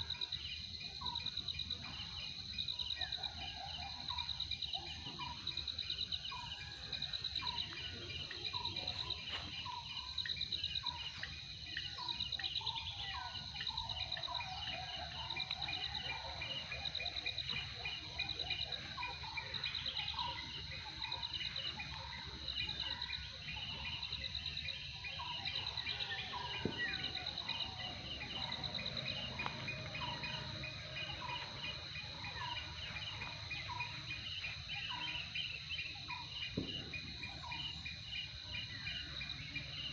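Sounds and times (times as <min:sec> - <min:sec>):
insects chirring: 0:04.1 - 0:39.9
birds chirping: 0:05.0 - 0:39.9.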